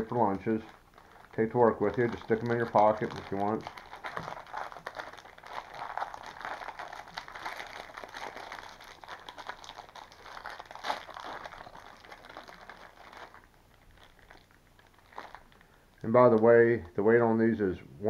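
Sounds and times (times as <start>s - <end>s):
plastic wrappers crackling: 0.0s - 17.2s.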